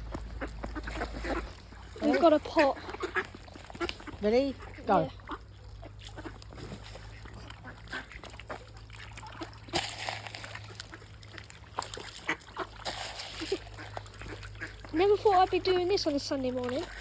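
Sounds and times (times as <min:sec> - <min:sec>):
ducks quacking: 0:00.0 - 0:17.0.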